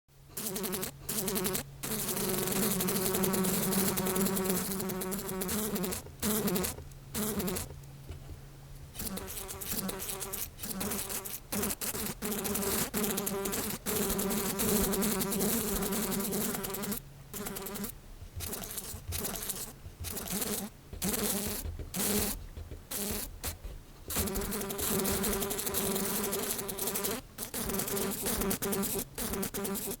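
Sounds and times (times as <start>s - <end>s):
house flies buzzing: 0.3s - 7.8s, 8.9s - 30.0s.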